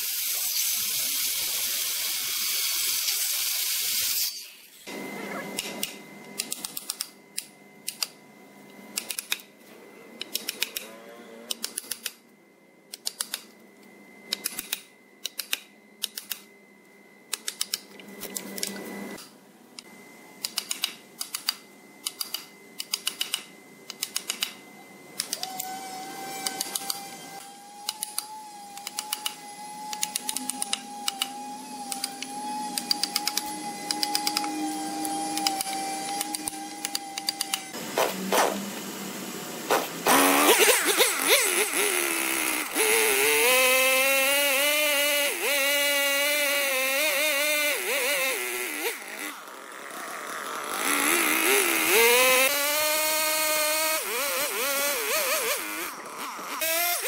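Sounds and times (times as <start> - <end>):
steady machine whine: 0.0 - 10.2, 18.0 - 57.0.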